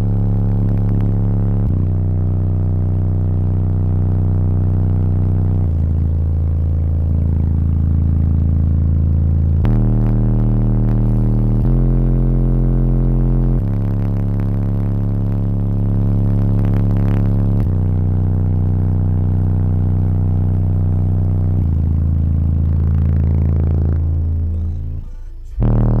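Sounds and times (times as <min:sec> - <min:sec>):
song with heavy bass from subwoofers: 0:00.0 - 0:26.0.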